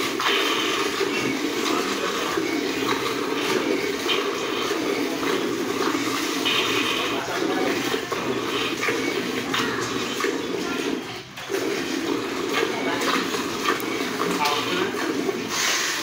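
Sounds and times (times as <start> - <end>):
milk squirting into bucket: 0.0 - 16.0.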